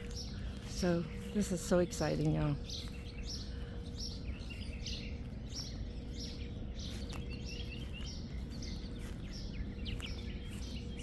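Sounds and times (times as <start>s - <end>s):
faint steady hum: 0.0s - 11.0s
low outdoor rumble: 0.0s - 11.0s
songbird chirping: 0.0s - 11.0s.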